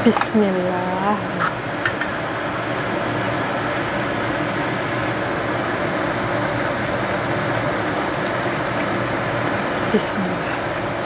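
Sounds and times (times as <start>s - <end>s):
fan whirring: 0.0s - 11.0s.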